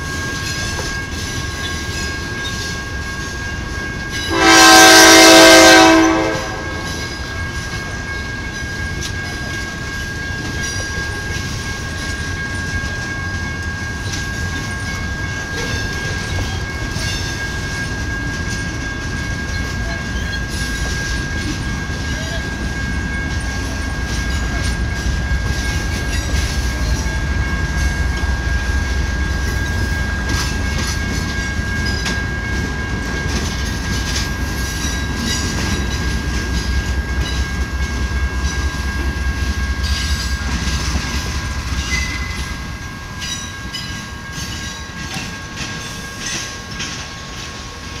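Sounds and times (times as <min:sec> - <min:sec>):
train rumble: 0:00.0 - 0:48.0
train wheels clacking over rails: 0:00.0 - 0:48.0.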